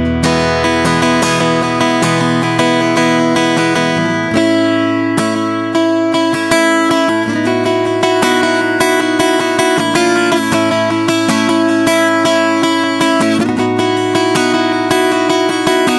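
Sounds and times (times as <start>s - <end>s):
acoustic guitar chords: 0.0s - 15.9s.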